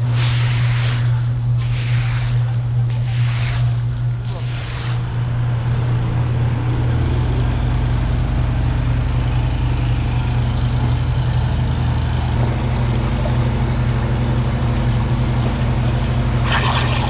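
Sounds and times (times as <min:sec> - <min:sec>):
higher motor tone: 0:00.0 - 0:17.0
motor running with low hum: 0:00.0 - 0:17.0.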